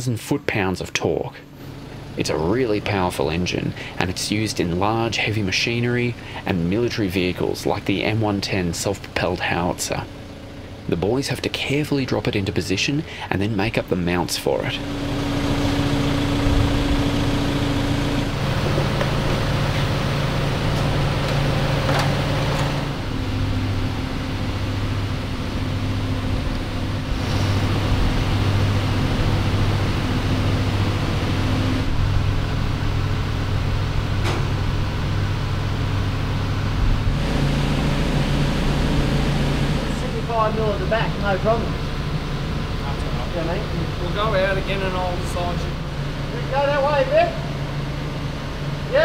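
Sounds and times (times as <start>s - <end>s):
forklift engine running: 0.5s - 49.0s.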